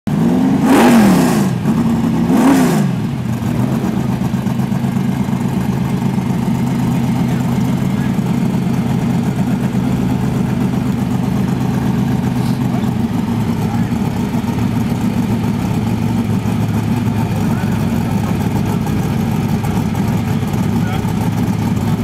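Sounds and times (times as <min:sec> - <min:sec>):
car engine revving and idling: 0:00.1 - 0:22.0.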